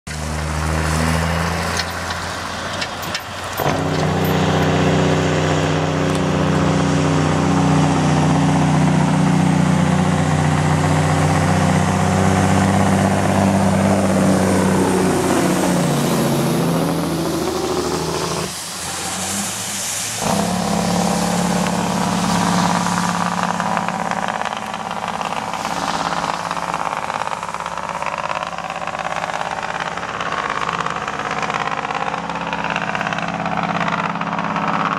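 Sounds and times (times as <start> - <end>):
diesel truck engine pulling hard: 0.1 - 34.9.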